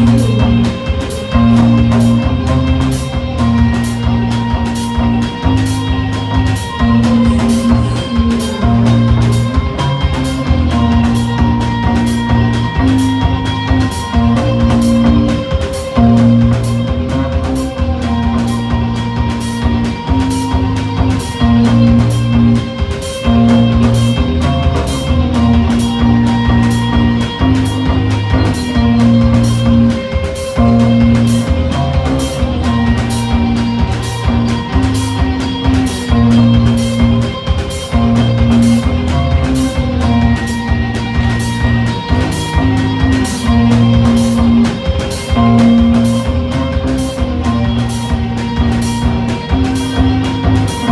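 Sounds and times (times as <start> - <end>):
fast cymbal beat: 0.0 - 50.9
live rock band playing: 0.0 - 50.9
low guitar riff: 0.0 - 50.9.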